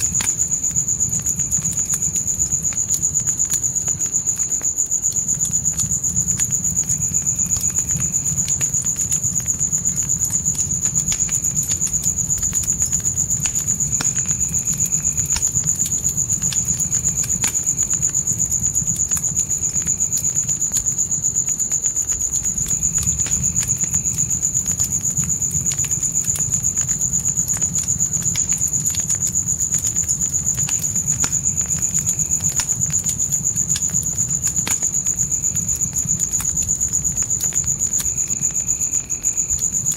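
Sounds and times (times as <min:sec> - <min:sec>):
crickets trilling: 0:00.0 - 0:39.9
fire crackling and popping: 0:00.0 - 0:39.9.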